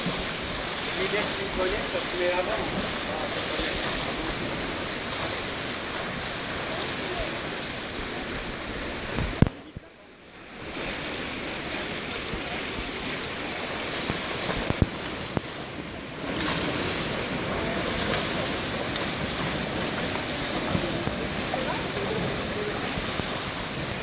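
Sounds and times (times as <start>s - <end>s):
swimmers splashing: 0.0s - 9.7s, 10.4s - 24.0s.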